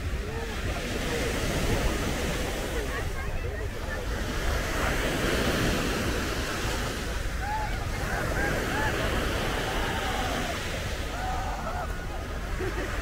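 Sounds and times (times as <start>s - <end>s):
sea waves breaking on sand: 0.0s - 13.0s.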